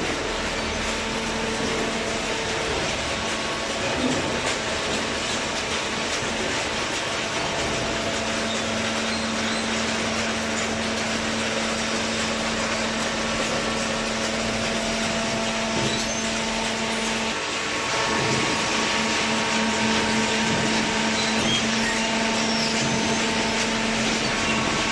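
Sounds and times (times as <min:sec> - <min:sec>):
hydraulic baler running: 0:00.0 - 0:24.9.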